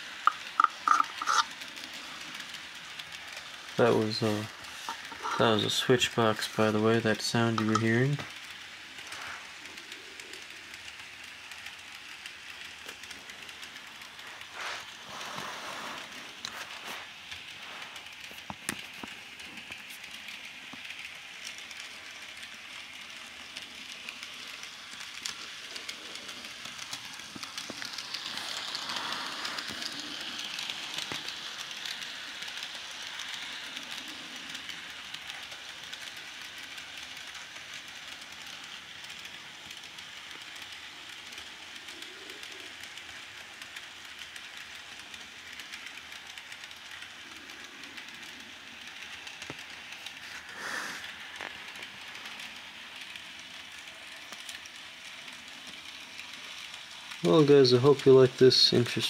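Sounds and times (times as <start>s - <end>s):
model train motor whirring: 0.0s - 59.0s.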